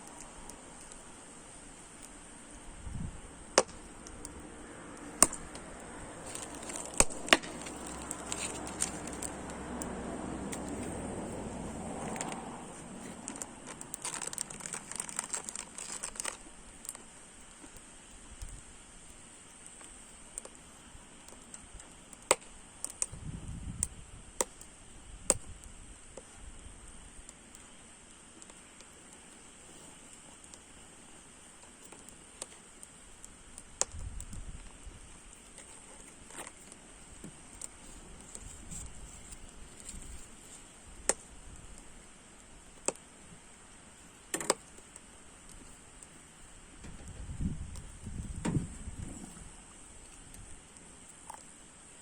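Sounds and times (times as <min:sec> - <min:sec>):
firewood burning and crackling: 0:00.0 - 0:52.0.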